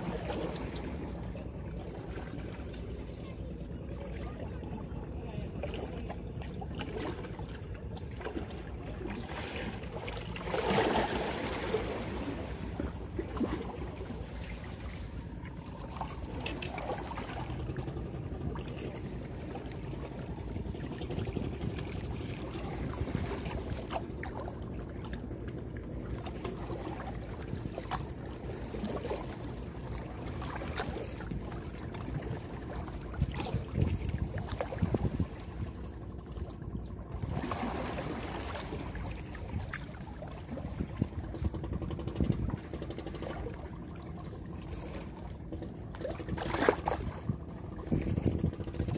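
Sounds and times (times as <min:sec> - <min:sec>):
water lapping among concrete blocks: 0:00.0 - 0:48.9.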